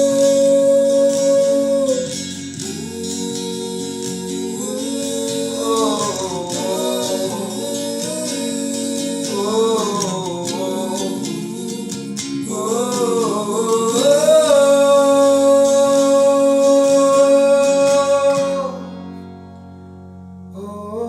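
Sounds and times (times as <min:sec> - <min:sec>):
person singing: 0:00.0 - 0:19.3, 0:20.5 - 0:21.0
acoustic guitar: 0:00.0 - 0:21.0.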